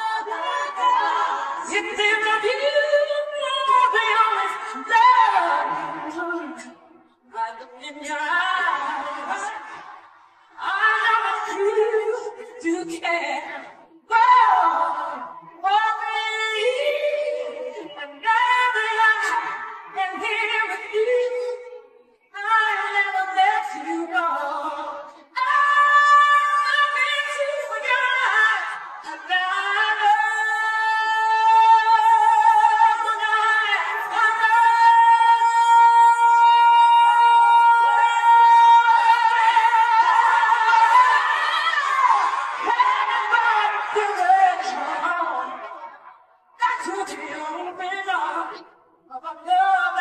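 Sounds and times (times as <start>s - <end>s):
woman singing a cappella: 0.0s - 45.8s, 46.5s - 50.0s.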